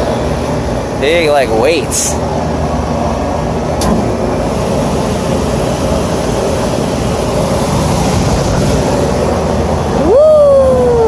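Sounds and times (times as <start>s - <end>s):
rooftop air unit blower humming: 0.0s - 11.0s.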